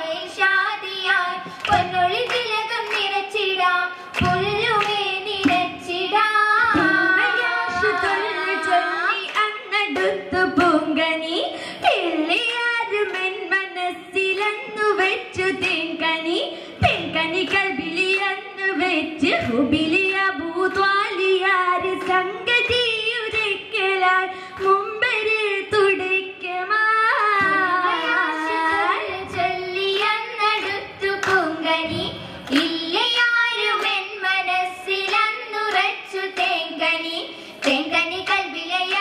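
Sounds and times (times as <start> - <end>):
girls singing: 0.0 - 39.0.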